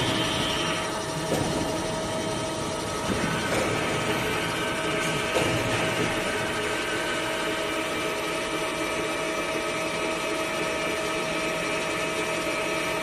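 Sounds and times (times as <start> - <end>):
lathe machine whine: 0.0 - 13.0.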